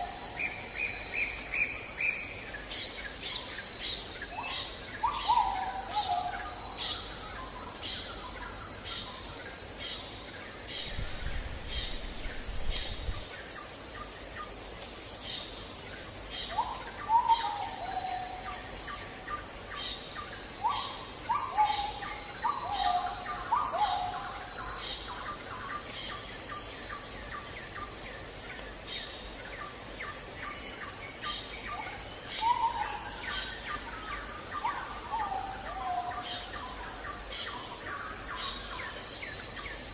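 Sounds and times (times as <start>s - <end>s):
insects trilling: 0.0s - 39.9s
wild birds singing: 0.0s - 39.9s.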